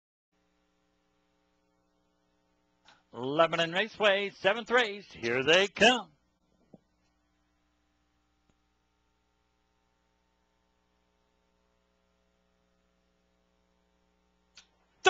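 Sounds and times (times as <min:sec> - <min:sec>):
faint electrical hum: 0:00.4 - 0:15.0.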